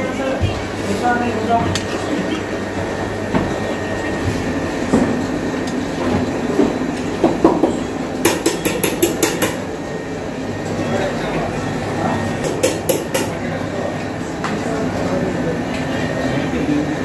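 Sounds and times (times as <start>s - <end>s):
gas burner rumbling: 0.0s - 17.0s.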